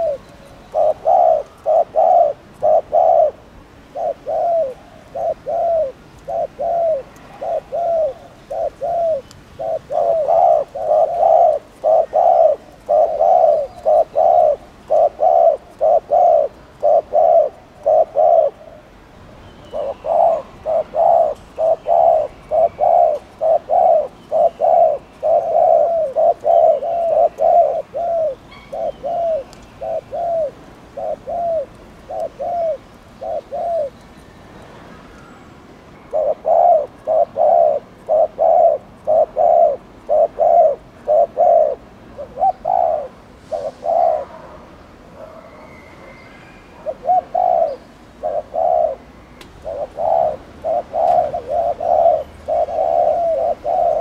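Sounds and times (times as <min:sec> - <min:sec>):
dove cooing: 0:00.0 - 0:19.0, 0:19.7 - 0:34.0, 0:36.1 - 0:45.6, 0:46.7 - 0:54.0.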